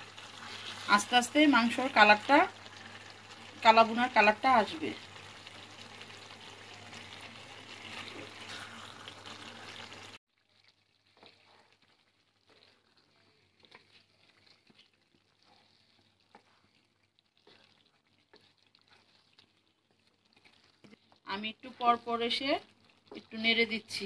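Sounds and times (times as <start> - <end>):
meat sizzling in a pan: 0.0 - 24.0.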